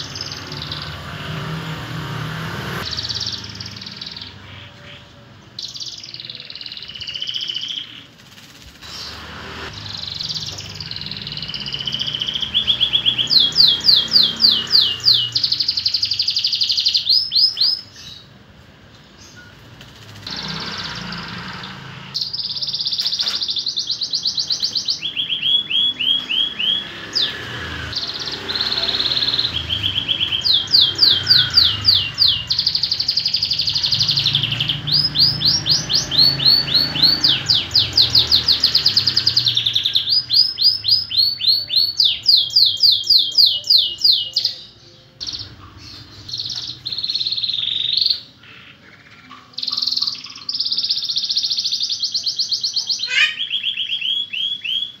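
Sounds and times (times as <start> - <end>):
canary singing trills: 0.0 - 18.5, 19.1 - 55.0.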